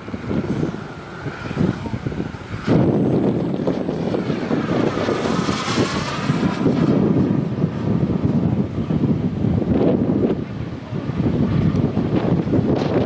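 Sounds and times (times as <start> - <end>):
model jet turbine passing: 0.0 - 13.0.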